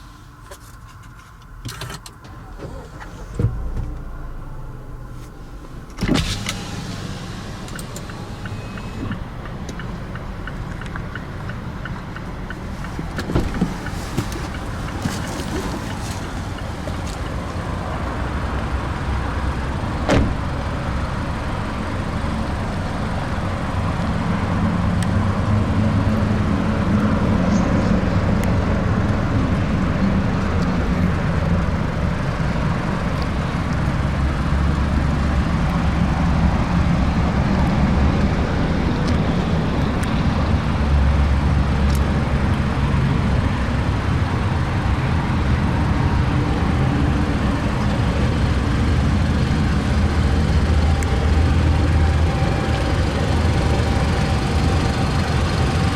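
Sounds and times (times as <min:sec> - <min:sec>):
car engine humming: 0:00.0 - 0:55.9.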